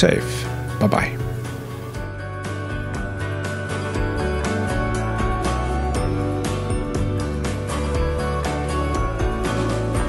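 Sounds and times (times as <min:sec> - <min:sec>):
background music with held chords: 0:00.0 - 0:10.0.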